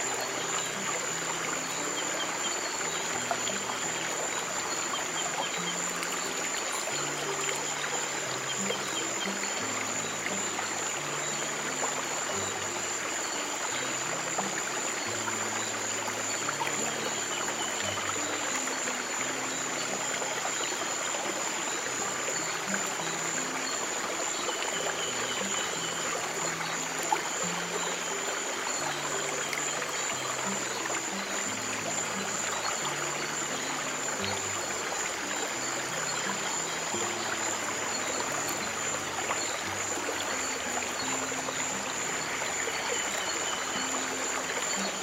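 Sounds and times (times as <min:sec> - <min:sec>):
stream water flowing: 0:00.0 - 0:45.0.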